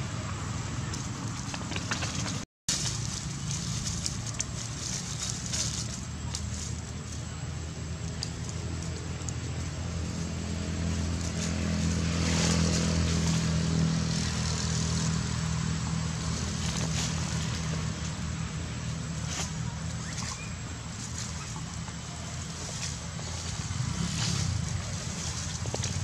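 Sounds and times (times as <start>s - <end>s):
passing motor engine hum: 0.0s - 26.0s.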